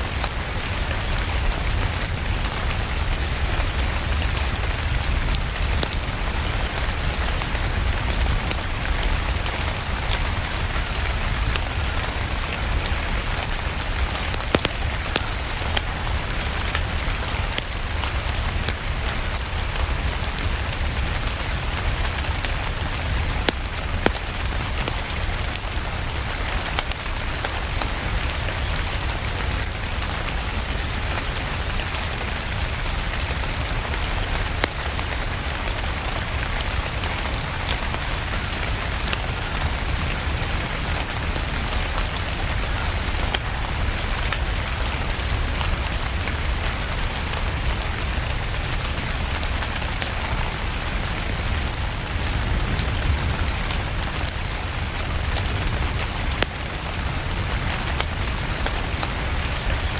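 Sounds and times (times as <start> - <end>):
steady rain: 0.0 - 59.9
wood fire crackling: 0.0 - 59.9.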